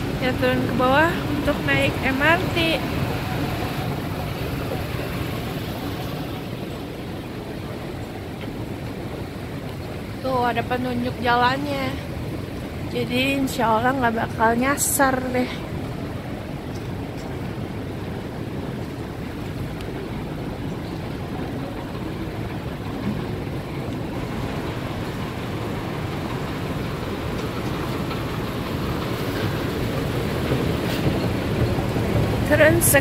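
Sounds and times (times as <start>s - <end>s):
airport concourse rumble: 0.0s - 33.0s.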